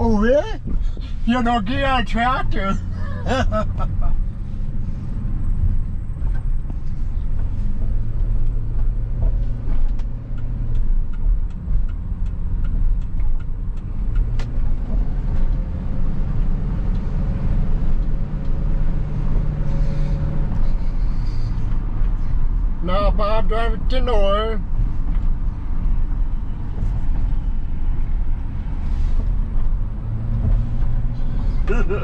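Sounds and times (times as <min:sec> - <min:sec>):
road noise: 0:00.0 - 0:32.0
vehicle engine running: 0:00.0 - 0:32.0.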